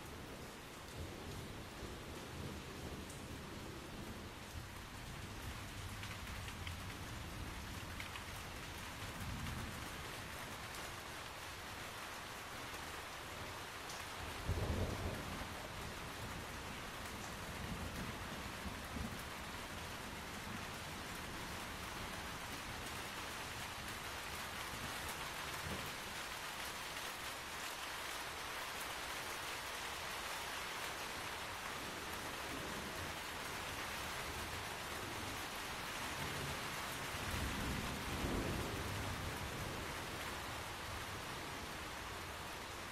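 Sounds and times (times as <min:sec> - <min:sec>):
rain falling under trees: 0:00.0 - 0:42.9.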